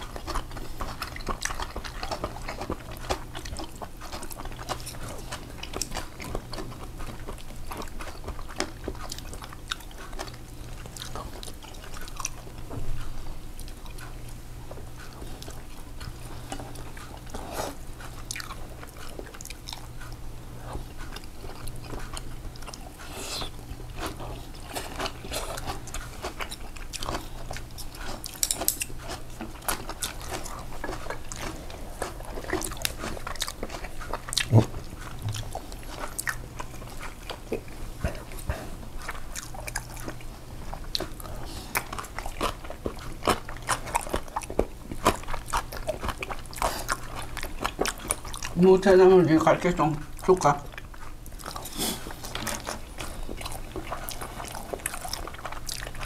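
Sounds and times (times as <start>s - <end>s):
chewing and biting food: 0.0s - 56.0s
steady low hum: 0.0s - 56.0s.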